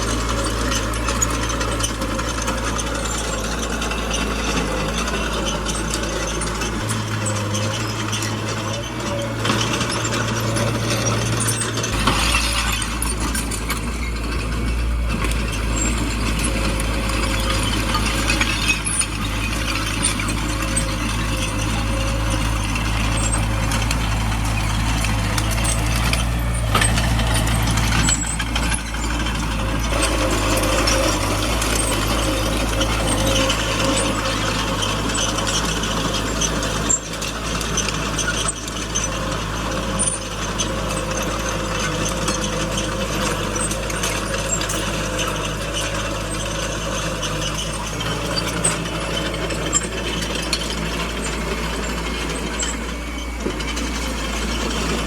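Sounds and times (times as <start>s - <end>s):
bulldozer diesel engine running: 0.0s - 55.0s
metal tracks clanking: 0.0s - 55.0s.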